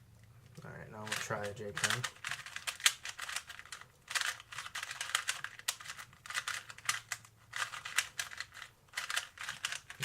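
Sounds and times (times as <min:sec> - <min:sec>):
puzzle cube clicking: 0:01.0 - 0:10.0.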